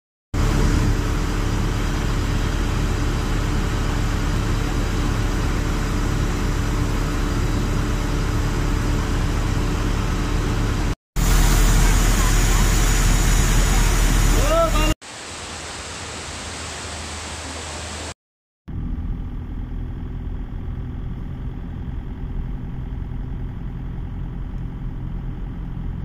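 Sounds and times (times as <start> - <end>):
engine drone with rushing noise: 0.4 - 26.0.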